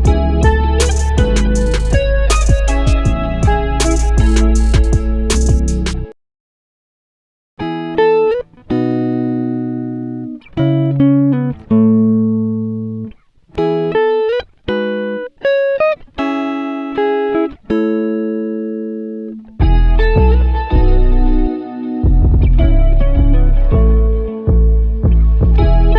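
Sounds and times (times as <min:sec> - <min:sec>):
plucked-string tune: 0:00.0 - 0:06.1, 0:07.6 - 0:25.9.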